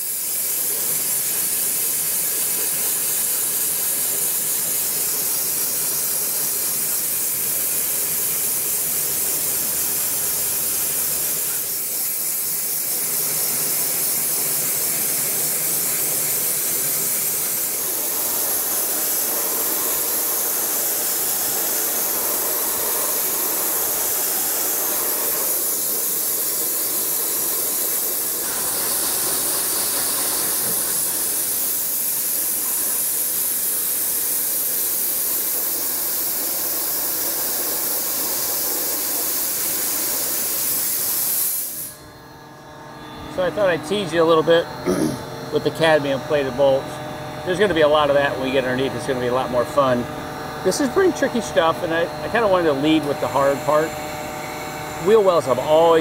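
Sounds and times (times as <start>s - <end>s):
dry ice blaster hissing: 0.0s - 56.0s.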